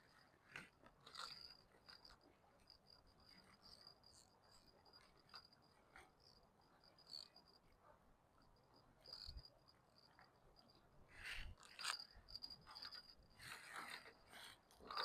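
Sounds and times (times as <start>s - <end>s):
soft rustles and clicks: 0.0s - 7.8s, 8.5s - 15.0s
faint high insect chirping: 0.0s - 15.0s.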